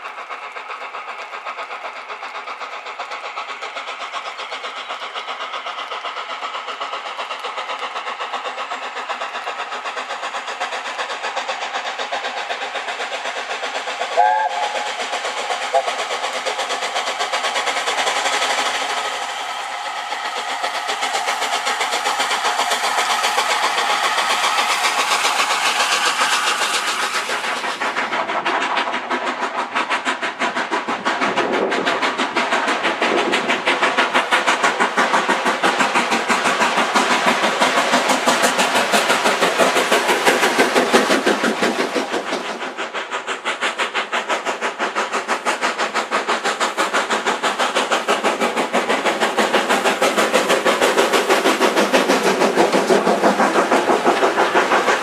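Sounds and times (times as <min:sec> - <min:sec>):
steam locomotive exhaust beat: 0:00.0 - 0:55.0.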